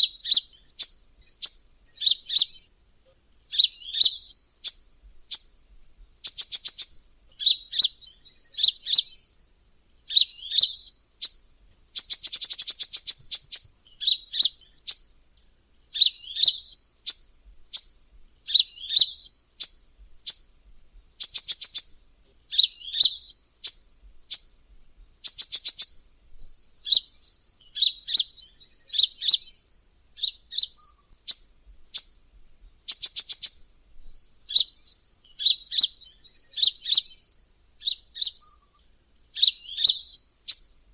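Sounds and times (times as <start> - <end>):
sunbird calling: 0.0 - 40.9.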